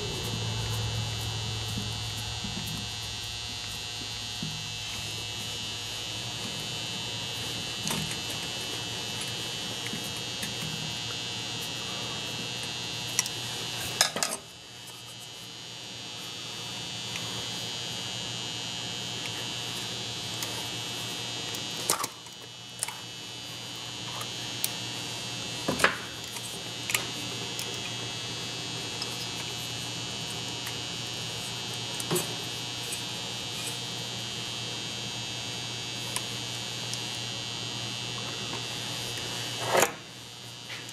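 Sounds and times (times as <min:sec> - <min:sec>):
electrical hum with high whine: 0:00.0 - 0:40.9.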